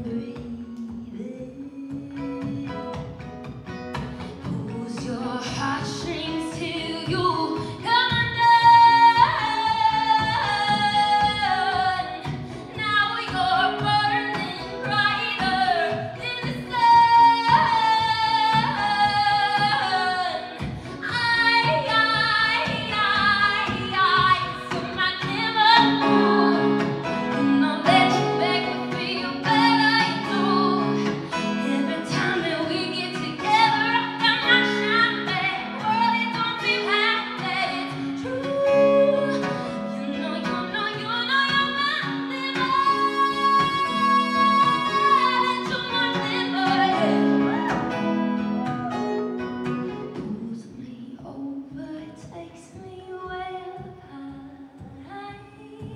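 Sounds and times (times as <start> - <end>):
woman singing: 0.0 - 3.4, 4.0 - 55.9
acoustic guitar: 0.0 - 55.9.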